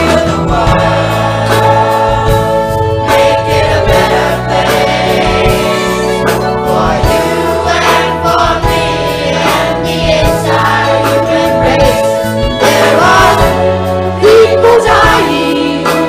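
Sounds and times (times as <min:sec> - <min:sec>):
choir singing: 0:00.0 - 0:16.0
instrumental accompaniment: 0:00.0 - 0:16.0.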